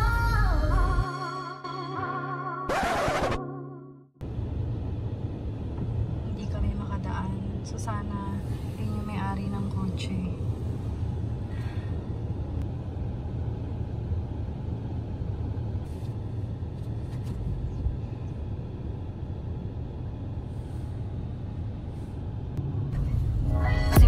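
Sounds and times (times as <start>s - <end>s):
car engine and road noise: 4.2s - 24.0s.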